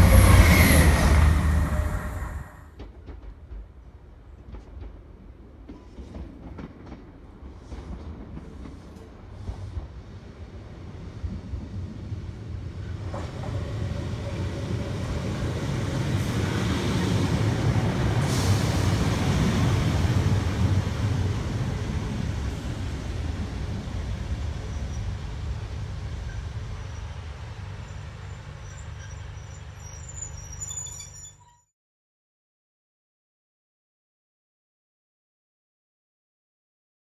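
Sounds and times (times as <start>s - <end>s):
diesel railcar running past: 0.0s - 31.3s.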